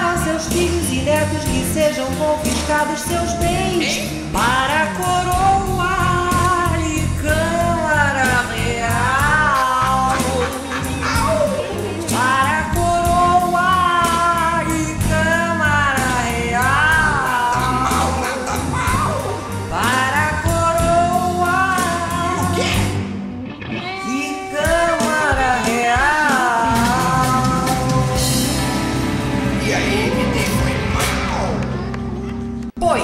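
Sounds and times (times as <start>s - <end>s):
woman singing blues: 0.0s - 23.0s, 23.8s - 28.8s
live band bass and drums: 0.0s - 32.7s.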